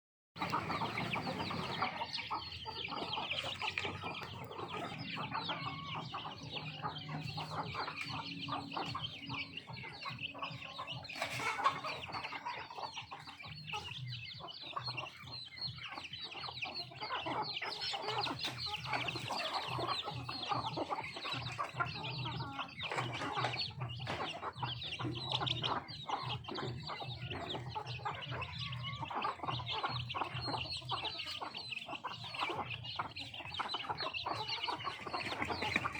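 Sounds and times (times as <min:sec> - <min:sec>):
chickens clucking: 0:00.4 - 0:35.9.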